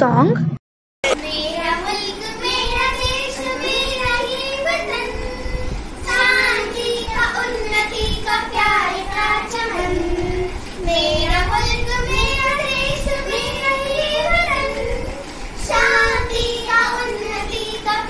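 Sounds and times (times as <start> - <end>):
girls singing: 1.1 - 18.0.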